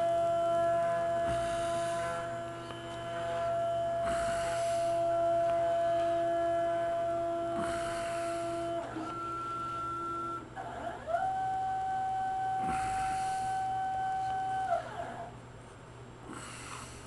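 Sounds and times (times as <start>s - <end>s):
stepper motors whining: 0.0s - 15.4s.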